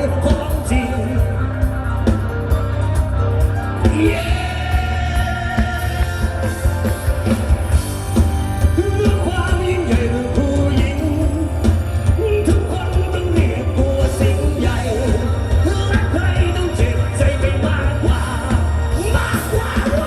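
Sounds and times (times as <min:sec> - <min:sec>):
live band music with singer: 0:00.0 - 0:20.0.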